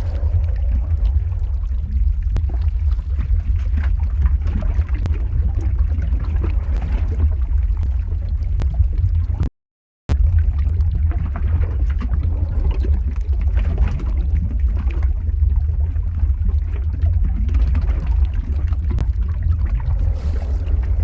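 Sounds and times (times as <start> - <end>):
deep lava rumble: 0.0 - 9.5, 10.1 - 21.0
dense lava crackling: 0.0 - 9.5, 10.1 - 21.0.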